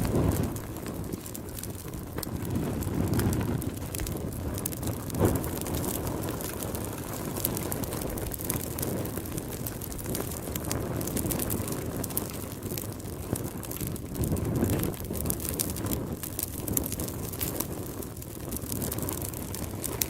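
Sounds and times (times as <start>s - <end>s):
fire popping: 0.0s - 20.0s
fire roaring and crackling: 0.0s - 20.0s.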